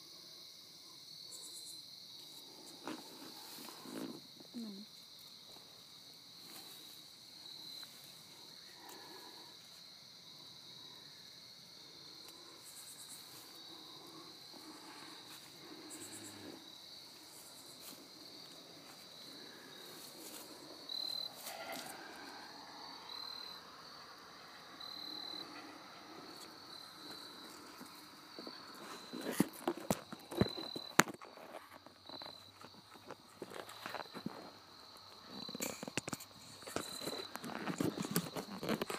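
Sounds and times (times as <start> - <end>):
crickets chirring: 0.0 - 38.9
short loud cricket chirps: 0.1 - 38.9.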